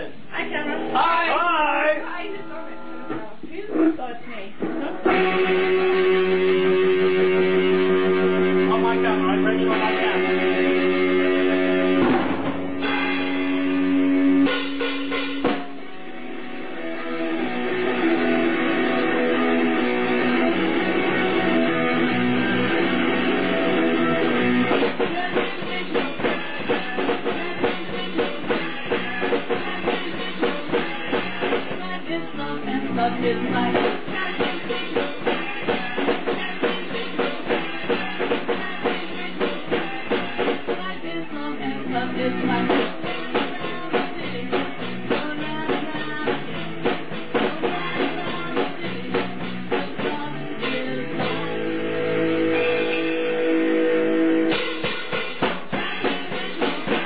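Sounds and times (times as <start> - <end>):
drum kit steady beat: 0.0 - 57.0
rock band playing live: 0.0 - 57.0.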